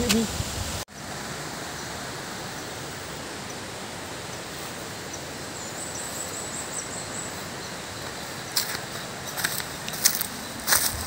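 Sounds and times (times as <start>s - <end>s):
outdoor hiss: 0.0s - 11.0s.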